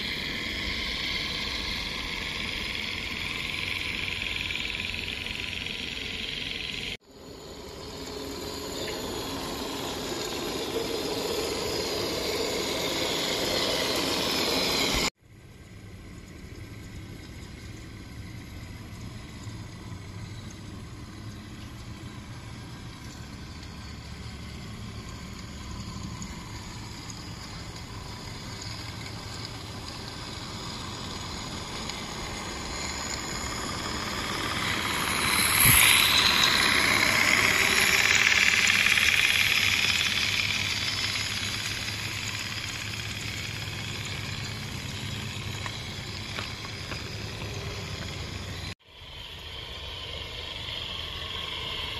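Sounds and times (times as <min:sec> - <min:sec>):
model steam locomotive running past: 0:00.0 - 0:51.9
steam hissing: 0:00.0 - 0:51.9.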